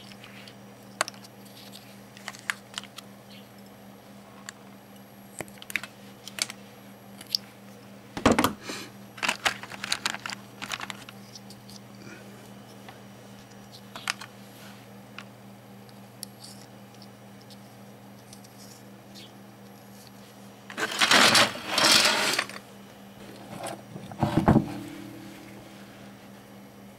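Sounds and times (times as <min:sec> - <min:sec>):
faint low hum: 0:00.0 - 0:26.9.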